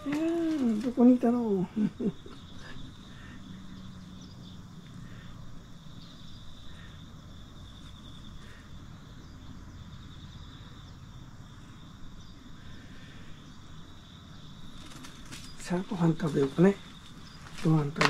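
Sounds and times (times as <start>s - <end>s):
insect chorus trilling: 0.0s - 18.0s.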